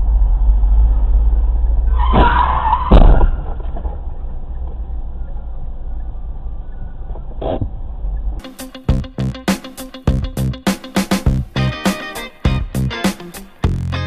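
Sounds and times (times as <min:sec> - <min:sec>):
road rumble: 0:00.0 - 0:09.5, 0:10.1 - 0:14.0.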